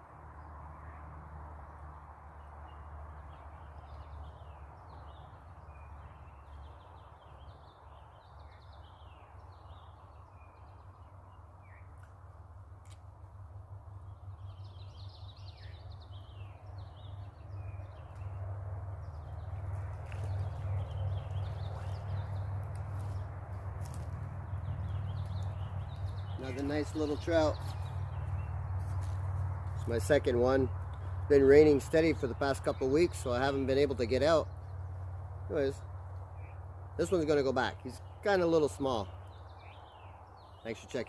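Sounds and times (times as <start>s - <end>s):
songbirds chirping: 0.0s - 41.0s.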